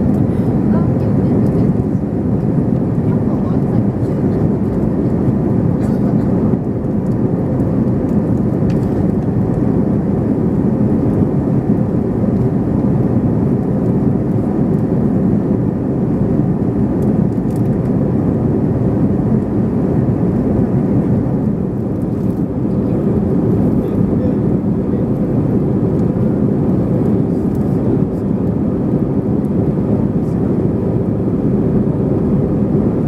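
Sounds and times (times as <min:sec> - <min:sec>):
airliner cabin engine noise: 0:00.0 - 0:33.0.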